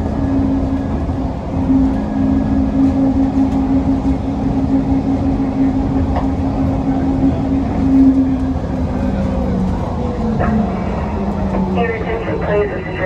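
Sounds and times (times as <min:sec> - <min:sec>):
train motor hum: 0:00.0 - 0:13.0
train running rumble: 0:00.0 - 0:13.0.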